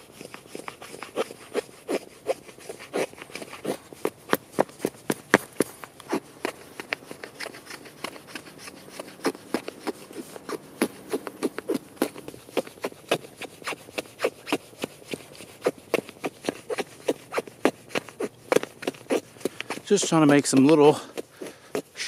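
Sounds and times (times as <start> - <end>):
axe blade scraping wood: 0.0 - 22.0.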